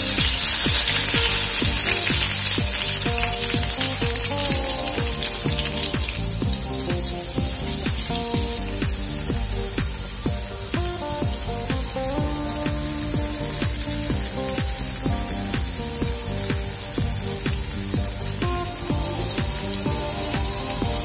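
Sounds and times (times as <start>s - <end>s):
background music with steady beat: 0.0s - 21.0s
mushrooms deep-frying in oil: 0.0s - 21.0s.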